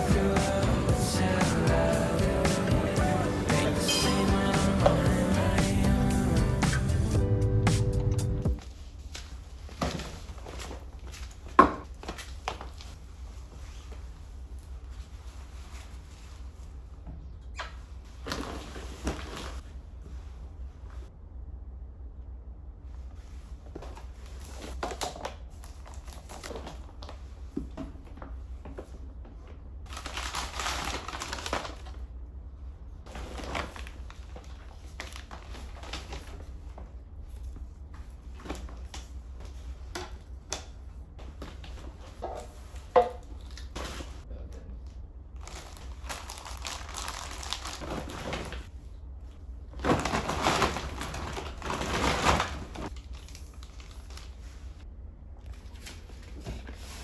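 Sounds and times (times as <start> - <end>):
rustling and crinkling: 8.6 - 21.1, 22.9 - 54.8, 55.4 - 57.0.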